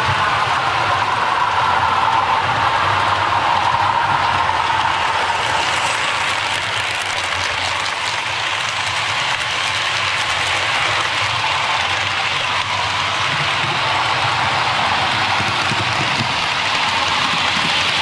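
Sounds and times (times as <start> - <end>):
model train motors whirring: 0.0 - 18.0.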